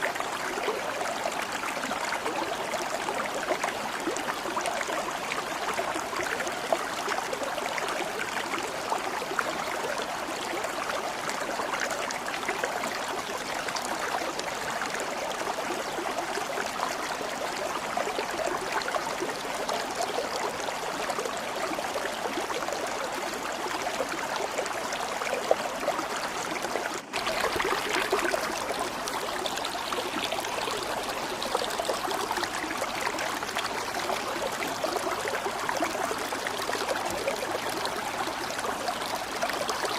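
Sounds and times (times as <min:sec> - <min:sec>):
stream water babbling over stones: 0:00.0 - 0:39.9.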